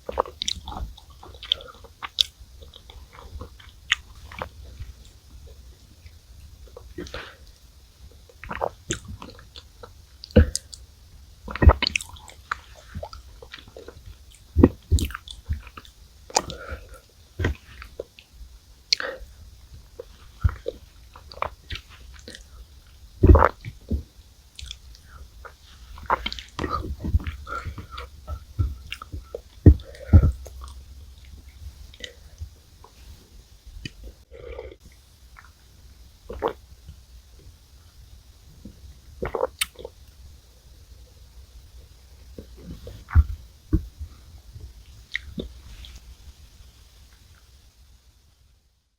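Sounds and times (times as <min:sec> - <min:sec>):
chewing soft cookies: 0:00.0 - 0:47.8.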